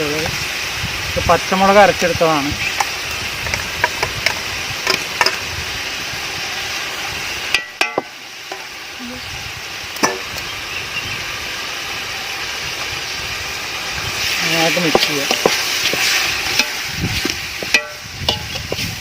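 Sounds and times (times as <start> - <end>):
masala sizzling in hot oil: 0.0 - 19.0.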